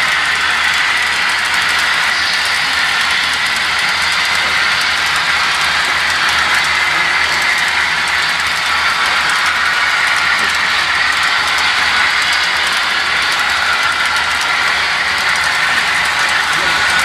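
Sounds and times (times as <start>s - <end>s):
faint rapid clicking: 0.0s - 17.0s
model train wheels hissing on rails: 0.0s - 17.0s.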